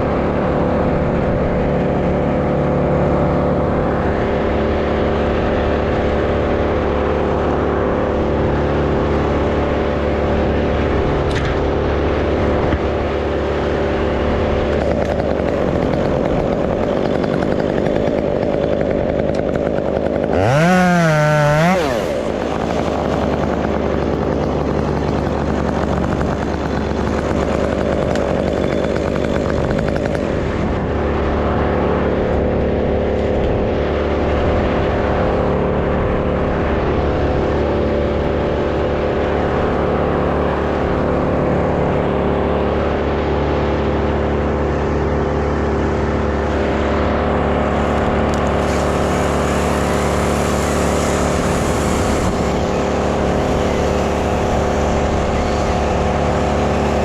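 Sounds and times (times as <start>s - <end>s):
chainsaw running and revving: 0.0s - 35.8s, 36.4s - 57.0s.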